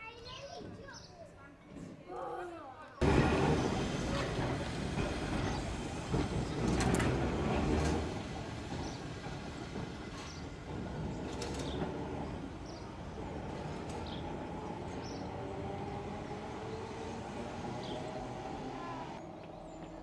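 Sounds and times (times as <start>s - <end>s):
tram rumbling on rails: 3.0s - 20.0s.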